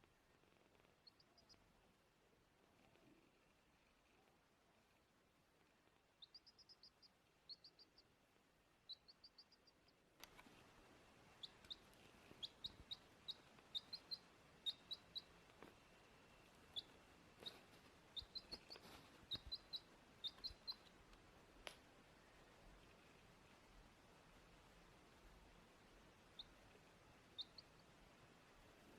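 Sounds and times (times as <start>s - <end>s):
baby chick peeping: 0.4s - 28.9s.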